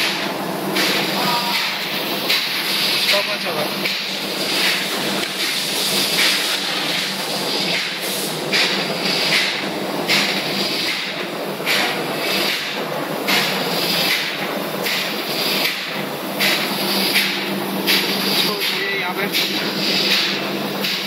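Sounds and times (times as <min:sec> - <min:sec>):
engine-room machinery hum: 0:00.0 - 0:21.0.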